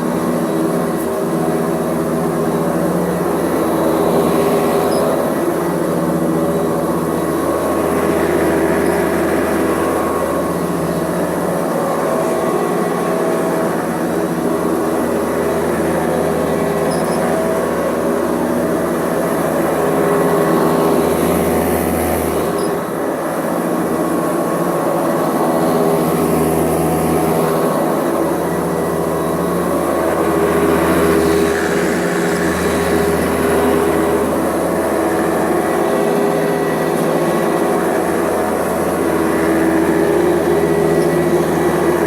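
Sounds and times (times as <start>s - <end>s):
vacuum cleaner running on rug: 0.0s - 42.0s.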